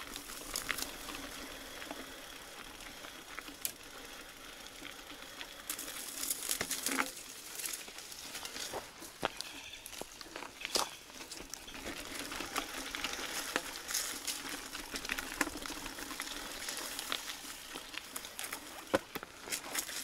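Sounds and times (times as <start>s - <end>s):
bike tyre noise on rough road: 0.0s - 20.0s
grit crackling under tyres: 0.0s - 20.0s.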